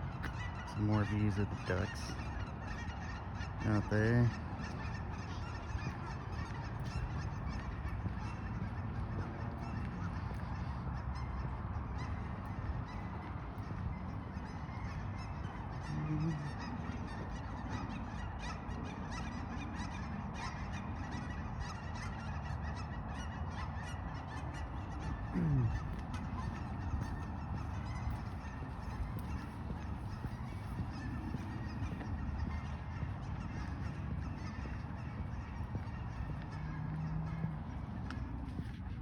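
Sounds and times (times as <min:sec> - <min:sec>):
waterfowl calling and honking: 0:00.0 - 0:39.0.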